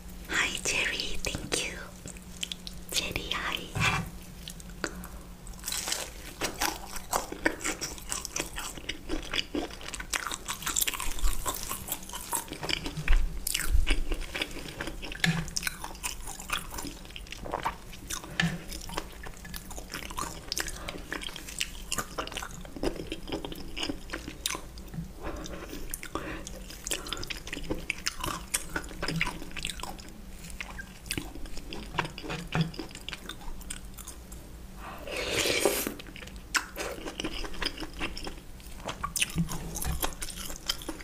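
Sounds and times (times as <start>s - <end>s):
crunching and chewing fried food: 0.4s - 41.0s.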